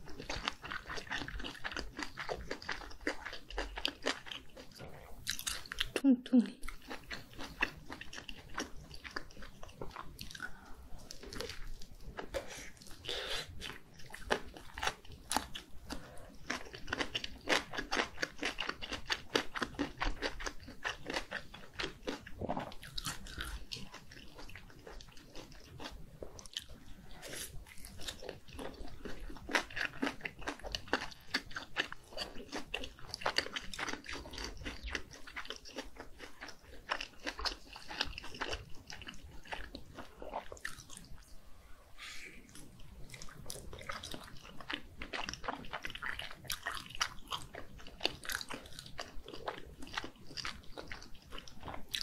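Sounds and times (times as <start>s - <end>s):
wet crunching chewing: 0.0s - 41.2s, 42.5s - 52.0s.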